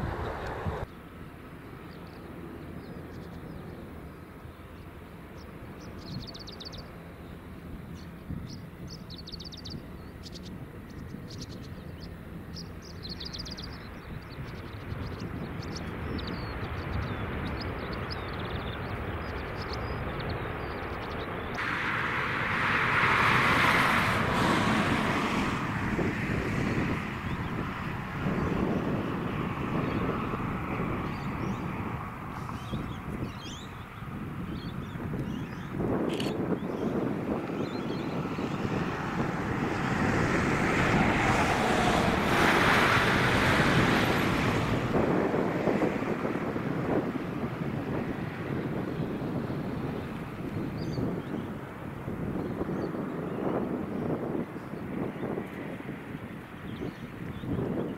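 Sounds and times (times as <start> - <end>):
wind buffeting microphone: 0.0 - 0.9, 2.6 - 57.9
jet engines rumbling: 0.0 - 57.9.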